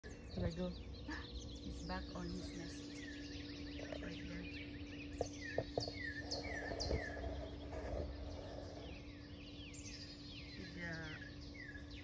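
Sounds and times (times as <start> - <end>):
low hum: 0.0 - 12.0
songbirds chirping: 0.0 - 12.0.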